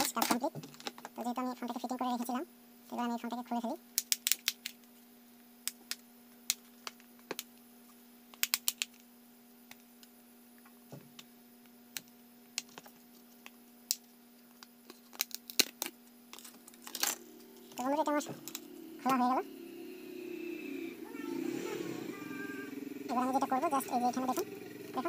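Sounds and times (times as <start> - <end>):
steady low hum: 4.7 - 25.0.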